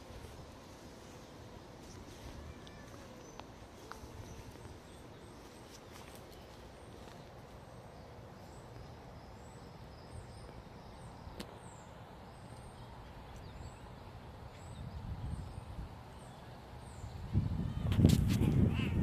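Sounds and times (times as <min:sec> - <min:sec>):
small birds chirping: 0:00.0 - 0:19.0
steady background hiss: 0:00.0 - 0:19.0.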